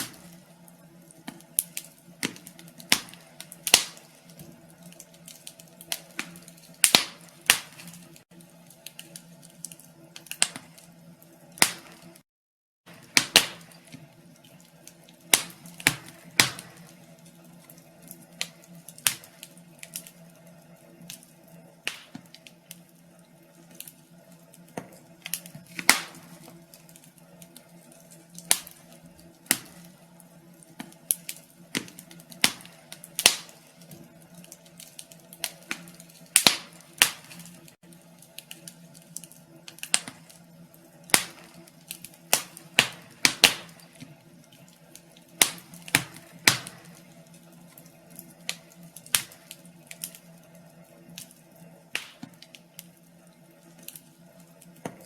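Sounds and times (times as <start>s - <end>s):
fire crackling: 0.0s - 12.2s, 12.9s - 55.0s.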